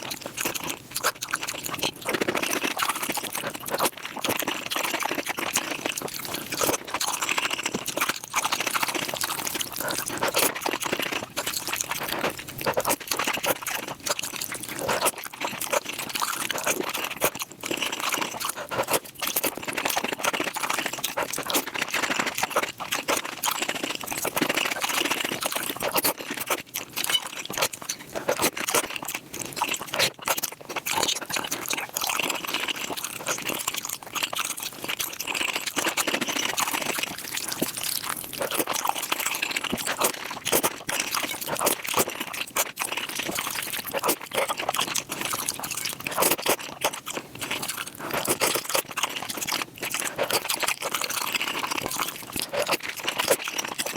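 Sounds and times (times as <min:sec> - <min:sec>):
rapid chewing and crunching: 0:00.0 - 0:53.9.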